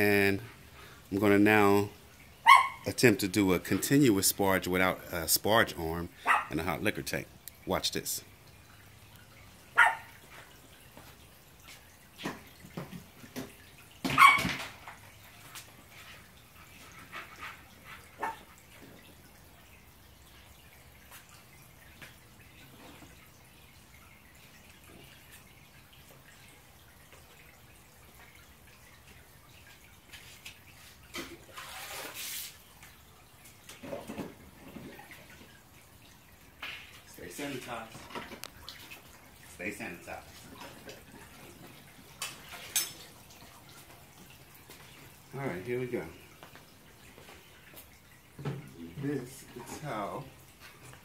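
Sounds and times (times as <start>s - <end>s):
liquid dripping and trickling: 0.0s - 51.0s.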